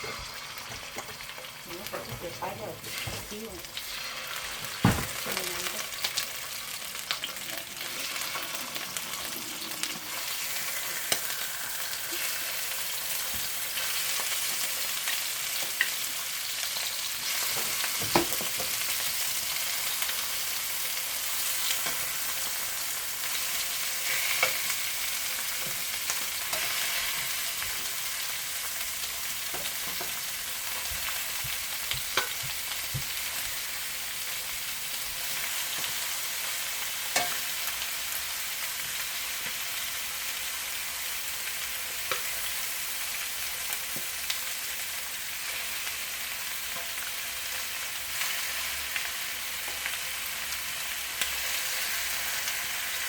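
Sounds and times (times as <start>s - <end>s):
chicken sizzling in a frying pan: 0.0s - 53.0s.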